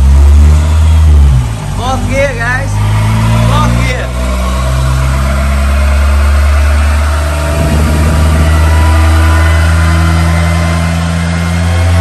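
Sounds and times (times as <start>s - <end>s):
four-cylinder engine running on dyno: 0.0s - 12.0s.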